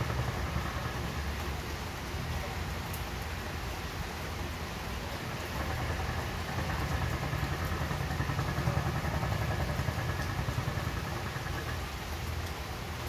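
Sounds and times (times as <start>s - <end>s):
low engine rumble: 0.0s - 13.0s
steady rain: 0.0s - 13.0s.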